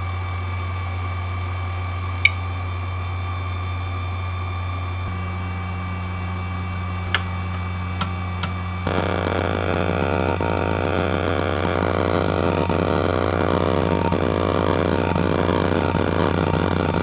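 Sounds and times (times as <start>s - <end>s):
hard drive spinning hum: 0.0s - 17.0s.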